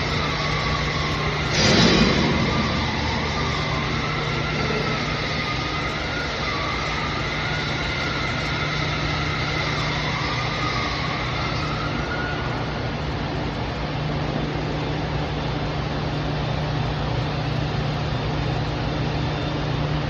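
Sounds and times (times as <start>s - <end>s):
faint wavering whine: 0.0s - 20.0s.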